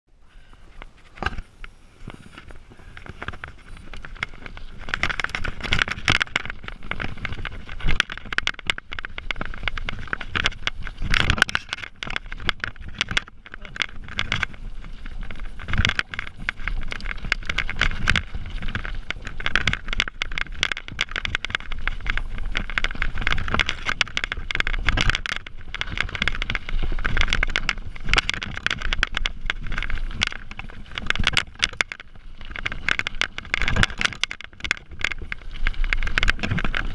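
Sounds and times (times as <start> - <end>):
bike tyres rolling over stones: 0.2 - 36.9
bike rattling and knocking: 1.0 - 36.9.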